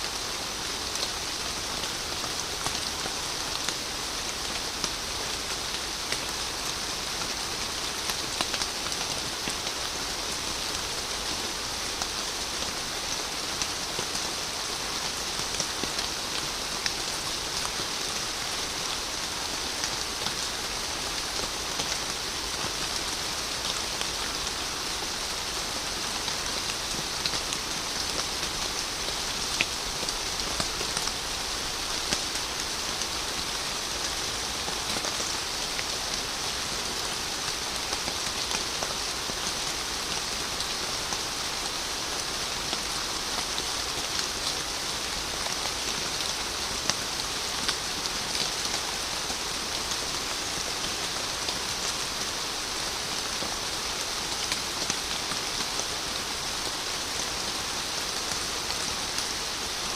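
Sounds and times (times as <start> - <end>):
rain drops ticking on surface: 0.0 - 59.9.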